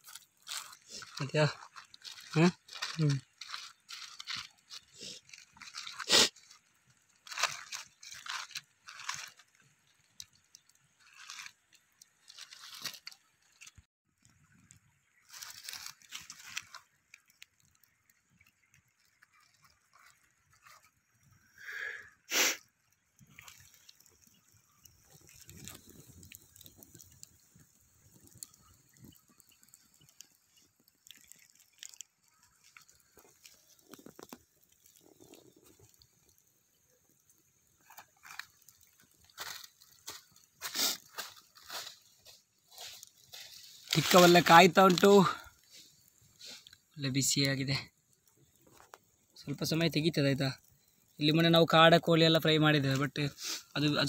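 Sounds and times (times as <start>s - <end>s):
plastic crinkling: 0.0s - 21.4s, 23.0s - 49.6s.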